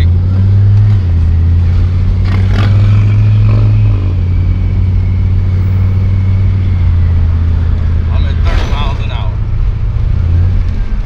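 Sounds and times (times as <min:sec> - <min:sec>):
deep engine drone: 0:00.0 - 0:11.0.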